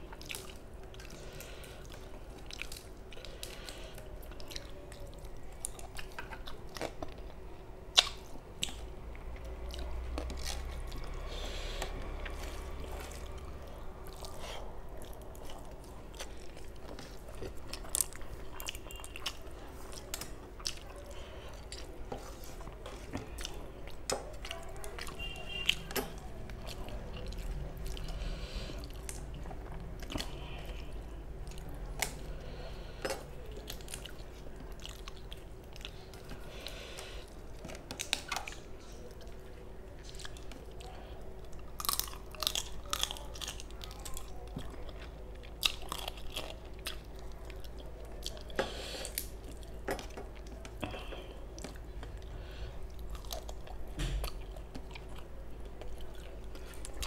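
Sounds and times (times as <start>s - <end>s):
close chewing with mouth smacks: 0.0s - 57.0s.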